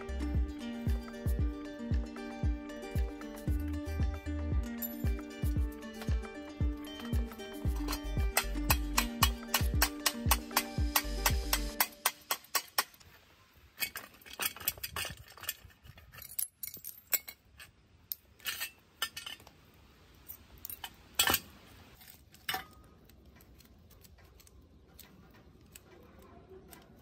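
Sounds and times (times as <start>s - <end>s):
steel bicycle parts clinking: 4.7s - 27.0s.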